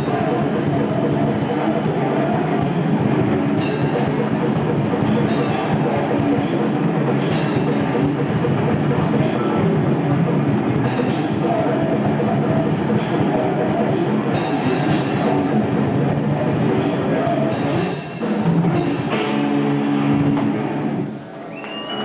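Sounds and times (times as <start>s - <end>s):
heavy metal band playing live: 0.0s - 21.2s.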